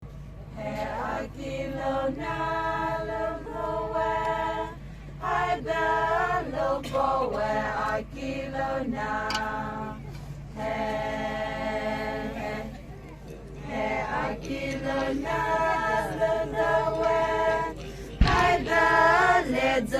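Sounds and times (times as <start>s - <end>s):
voices singing a chant: 0.5s - 19.9s.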